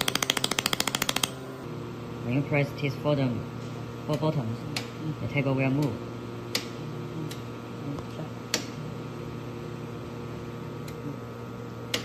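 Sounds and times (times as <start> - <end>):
electrical hum of welding machine: 0.0 - 12.0.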